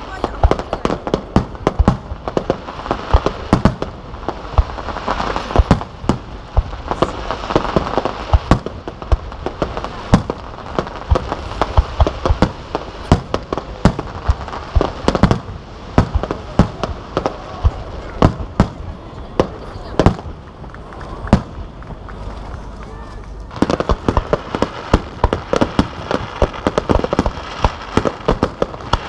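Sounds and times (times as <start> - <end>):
firework bangs: 0.0 - 29.0
firework crackle: 0.0 - 29.0.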